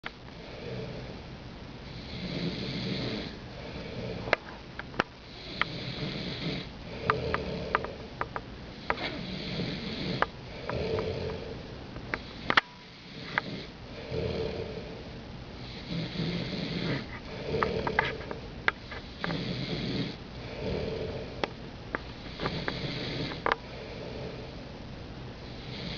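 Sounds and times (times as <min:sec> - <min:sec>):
person snoring: 0:00.4 - 0:01.2, 0:01.9 - 0:04.4, 0:05.2 - 0:21.5, 0:22.2 - 0:24.6, 0:25.4 - 0:25.9.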